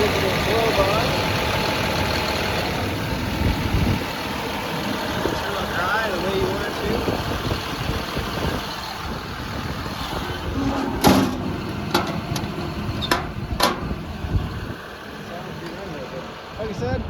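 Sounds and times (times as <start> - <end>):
excavator diesel engine idling: 0.0 - 17.0.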